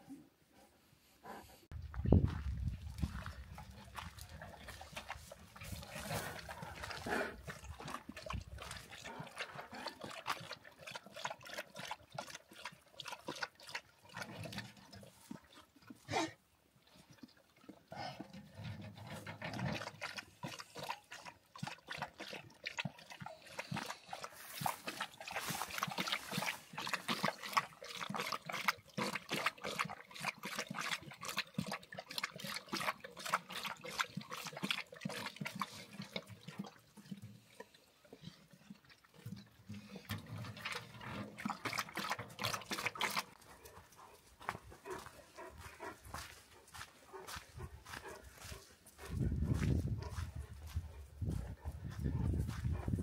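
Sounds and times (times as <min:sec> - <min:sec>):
dogs lapping water: 0:01.7 - 0:53.0.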